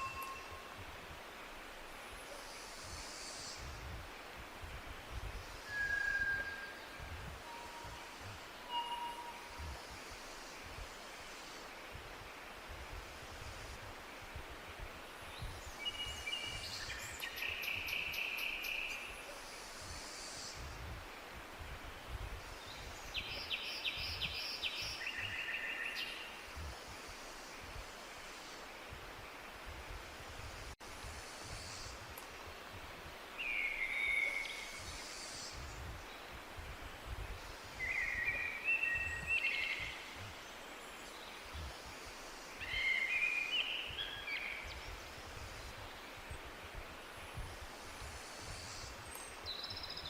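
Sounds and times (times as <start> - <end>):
songbird singing: 0.0 - 0.9, 5.1 - 12.6, 15.2 - 20.8, 21.6 - 29.7, 31.5 - 50.0
outdoor hiss with low rumble: 0.0 - 50.0.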